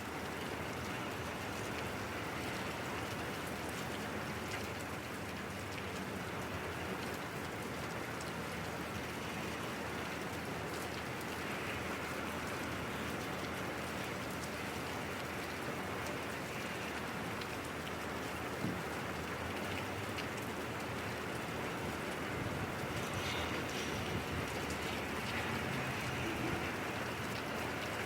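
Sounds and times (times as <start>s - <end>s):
rain pattering on surfaces: 0.0s - 28.0s.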